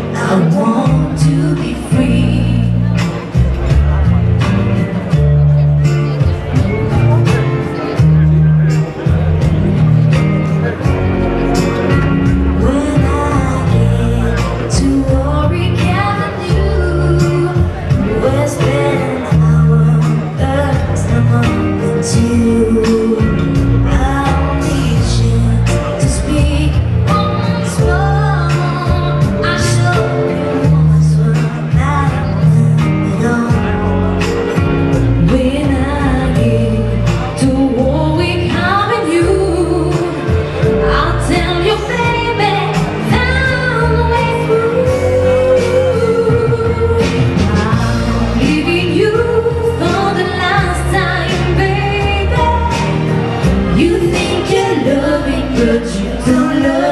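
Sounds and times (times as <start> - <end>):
pop song with sung vocals: 0.0 - 56.9.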